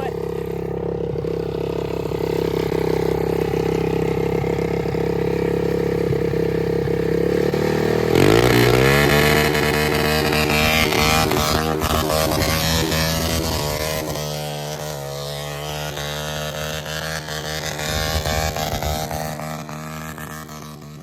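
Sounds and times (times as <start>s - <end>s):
quad engine running: 0.0s - 21.0s.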